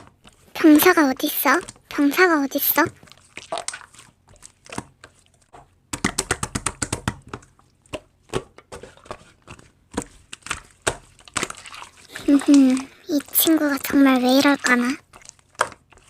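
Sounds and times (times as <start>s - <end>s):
slime squishing with sticky clicks: 0.0s - 8.6s, 9.5s - 16.0s.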